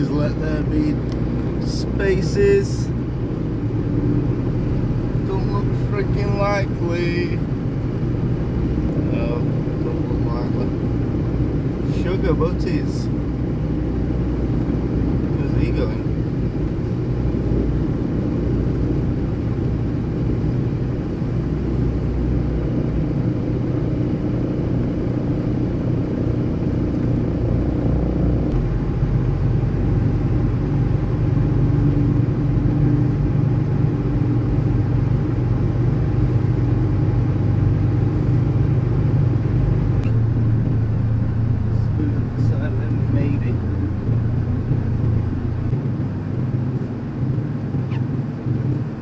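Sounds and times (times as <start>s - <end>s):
diesel truck engine rumbling: 0.0s - 49.0s.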